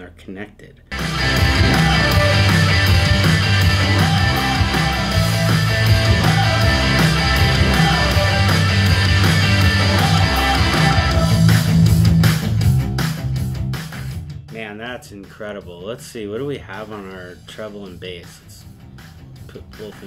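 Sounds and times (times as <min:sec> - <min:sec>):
rock music over speakers: 0:00.9 - 0:20.0.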